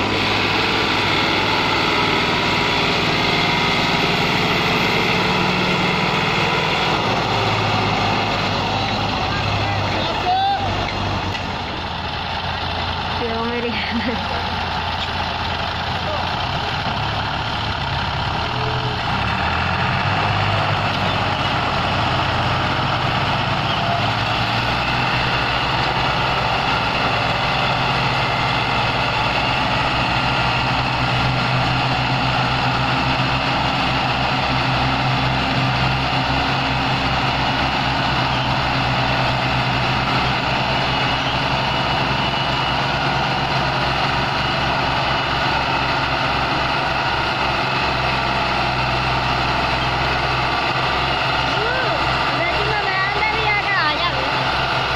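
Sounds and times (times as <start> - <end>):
diesel tractor engines under load: 0.0 - 54.9.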